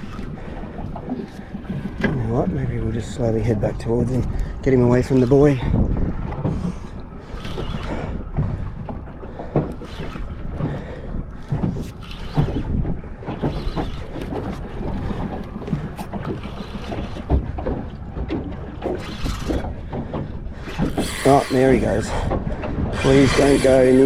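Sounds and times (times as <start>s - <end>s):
water slapping against hull: 0.0s - 24.0s
wind buffeting microphone: 0.0s - 24.0s.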